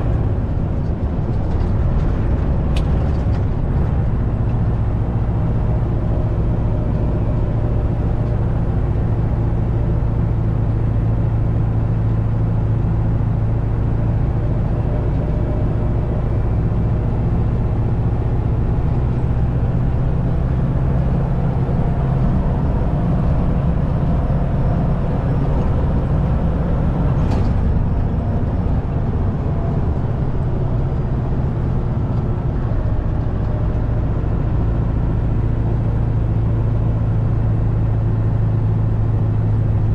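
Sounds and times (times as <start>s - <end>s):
diesel engine drone: 0.0s - 39.9s
tyre and road noise: 0.0s - 39.9s.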